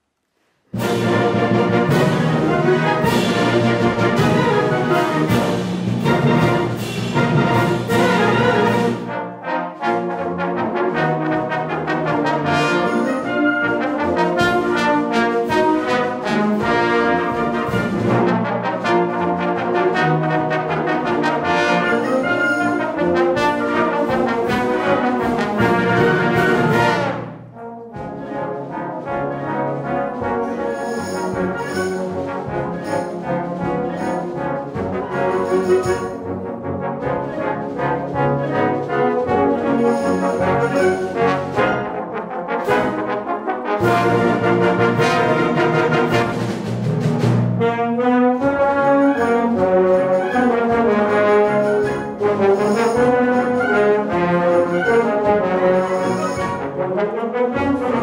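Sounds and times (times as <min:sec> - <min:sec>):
trombones: 0:00.7 - 0:58.0
wind band playing: 0:00.7 - 0:58.0.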